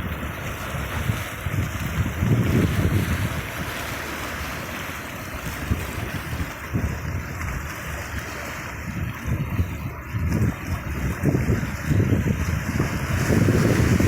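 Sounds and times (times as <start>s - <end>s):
sea waves washing: 0.0s - 14.0s
wind gusting on microphone: 0.0s - 14.0s.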